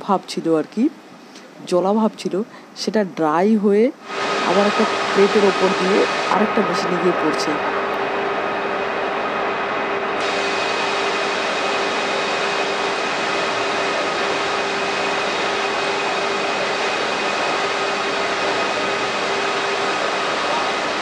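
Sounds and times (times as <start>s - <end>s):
steady machine hum: 3.9s - 21.0s
factory machinery running: 4.0s - 21.0s.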